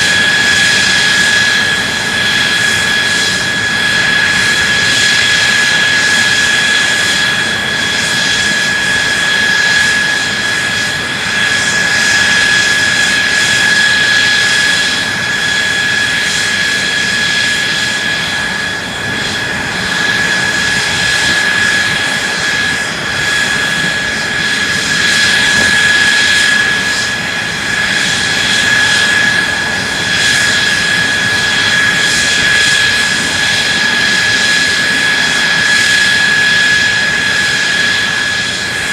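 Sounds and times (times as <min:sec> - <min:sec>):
jet engine roaring: 0:00.0 - 0:38.9.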